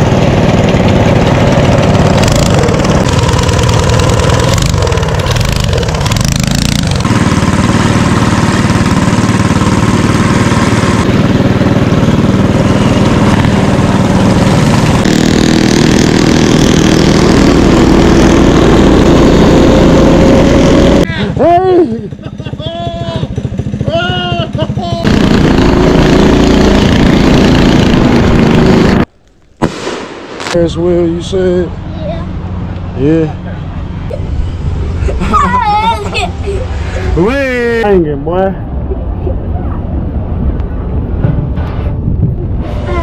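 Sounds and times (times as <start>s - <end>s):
mini bike engines running: 0.0s - 29.0s, 30.8s - 38.5s, 42.6s - 43.0s.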